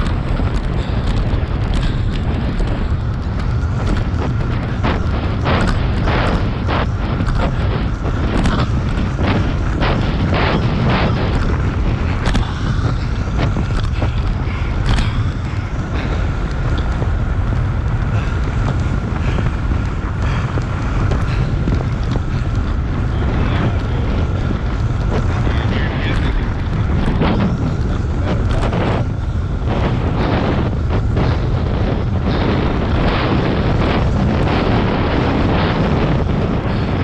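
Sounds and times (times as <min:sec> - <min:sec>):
bike knocking and rattling: 0:00.0 - 0:37.0
wind buffeting on microphone: 0:00.0 - 0:37.0.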